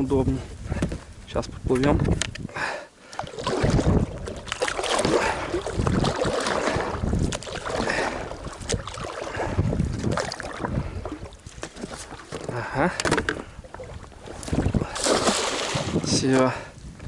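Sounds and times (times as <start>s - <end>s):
wind buffeting microphone: 0.0s - 17.0s
water sloshing against hull: 1.8s - 17.0s
oars rowing: 2.6s - 16.6s.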